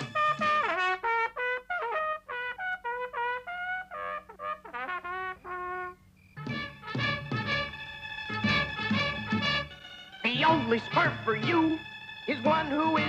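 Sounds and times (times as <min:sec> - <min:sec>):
trumpet solo: 0:00.0 - 0:11.6.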